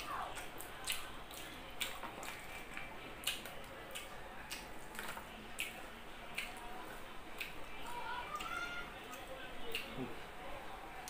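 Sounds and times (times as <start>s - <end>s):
person chewing with wet mouth smacks: 0.3s - 10.2s.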